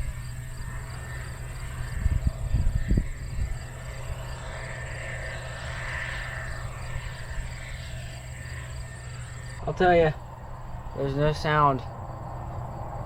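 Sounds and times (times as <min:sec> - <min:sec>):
combine engine droning: 0:00.0 - 0:13.0.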